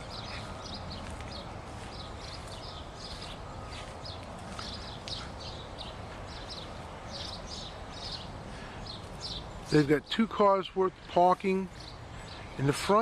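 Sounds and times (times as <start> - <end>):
small birds chirping: 0.0 - 13.0
steady low background hum: 0.0 - 13.0.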